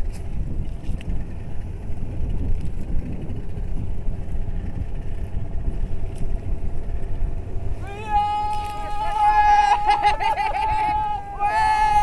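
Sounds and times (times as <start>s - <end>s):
boat engine running steadily: 0.0s - 12.0s
wind rumbling on microphone: 0.0s - 12.0s.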